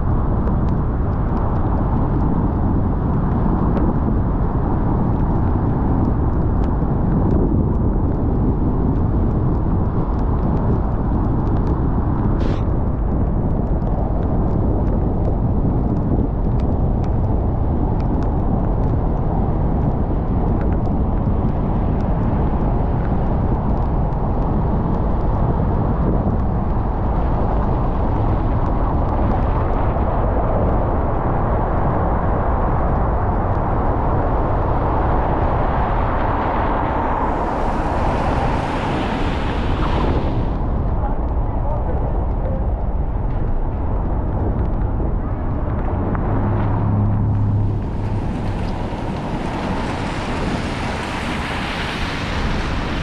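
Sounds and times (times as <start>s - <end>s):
tyre noise on wet road: 0.0s - 53.0s.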